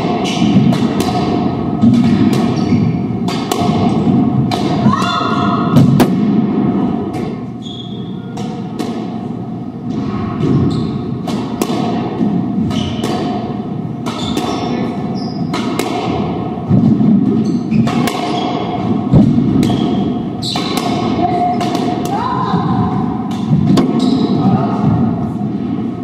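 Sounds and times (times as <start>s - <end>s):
squash ball hits echoing: 0.0s - 7.5s, 8.1s - 25.9s.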